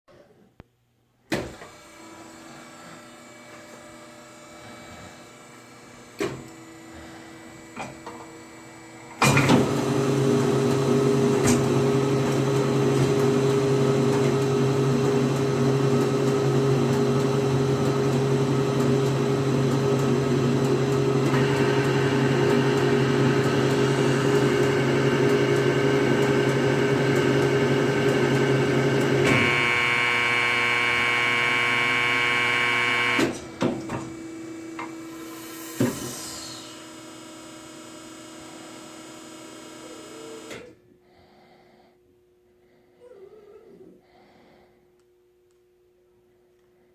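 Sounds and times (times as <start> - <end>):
vacuum pump humming: 1.6 - 40.6.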